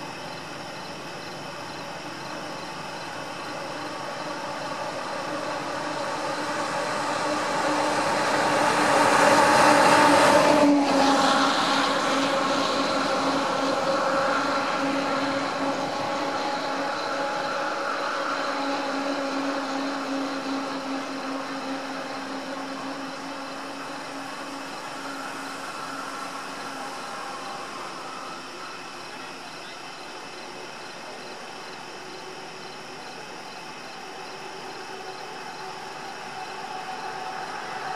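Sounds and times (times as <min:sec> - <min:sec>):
vehicle engine hum: 0:00.0 - 0:37.9.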